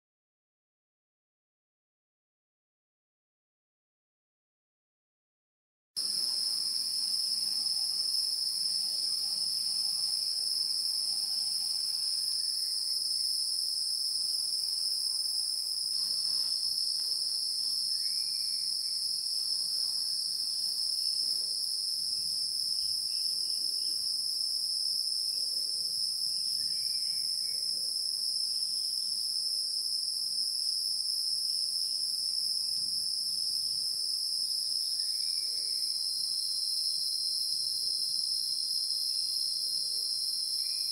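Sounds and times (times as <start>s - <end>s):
insect chorus buzzing: 6.0s - 40.9s.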